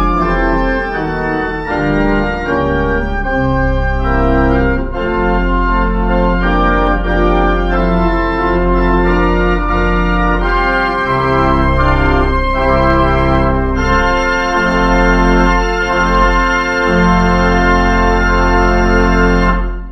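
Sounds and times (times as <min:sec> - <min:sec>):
organ playing sustained chords: 0:00.0 - 0:19.9.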